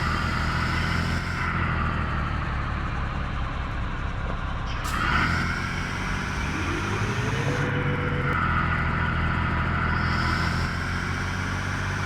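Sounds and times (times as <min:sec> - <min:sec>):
road noise: 0:00.0 - 0:12.0
truck engine running: 0:00.0 - 0:12.0.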